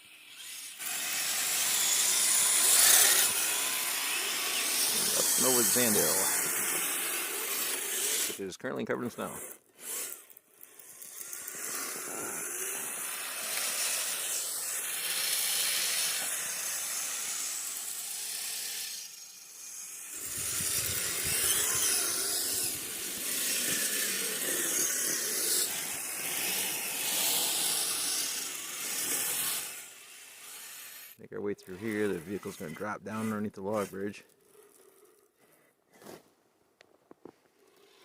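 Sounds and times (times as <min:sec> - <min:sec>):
toy tracks churning snow: 0:00.0 - 0:36.3, 0:37.2 - 0:38.0.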